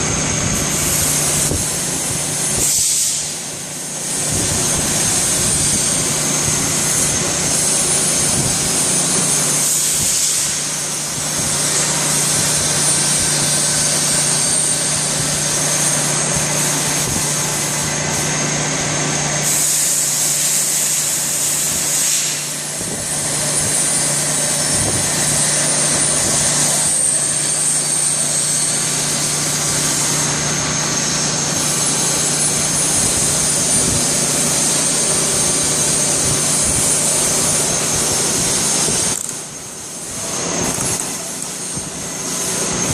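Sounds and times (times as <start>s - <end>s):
lathe running with hum and whine: 0.0s - 42.9s.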